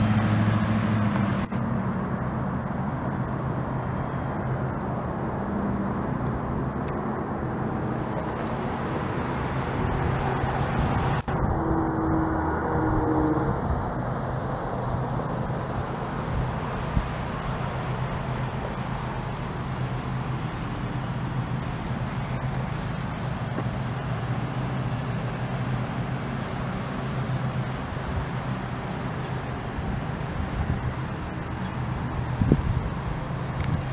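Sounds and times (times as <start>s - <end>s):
low engine hum: 0.0s - 33.9s
road and tyre noise: 0.0s - 33.9s.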